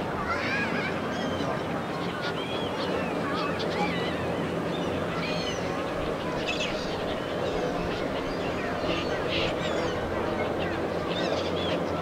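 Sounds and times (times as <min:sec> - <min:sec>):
steady background hum: 0:00.0 - 0:12.0
birds chirping: 0:00.7 - 0:12.0.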